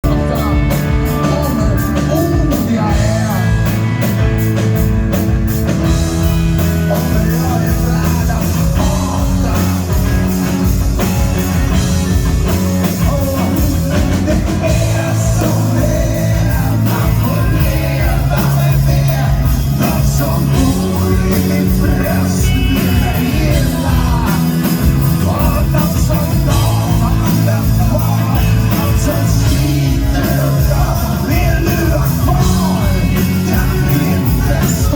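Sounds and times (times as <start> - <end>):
drum beat: 0.0 - 34.9
live rock band playing: 0.0 - 34.9
man singing: 0.0 - 34.9.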